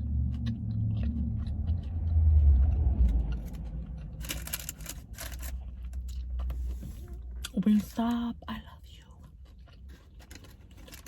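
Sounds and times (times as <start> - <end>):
vehicle rumble inside car: 0.0 - 11.0.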